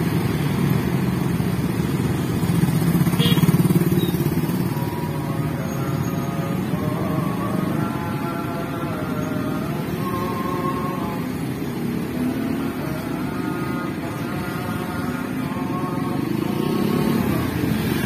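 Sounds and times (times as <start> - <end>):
car engines passing: 0.0 - 18.0
low traffic rumble: 0.0 - 18.0
motorcycle engines passing: 0.0 - 18.0.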